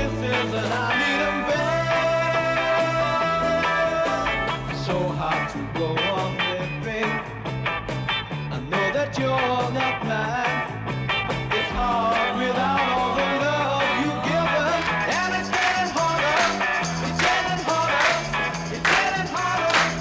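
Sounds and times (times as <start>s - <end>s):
rock and roll band playing: 0.0s - 20.0s.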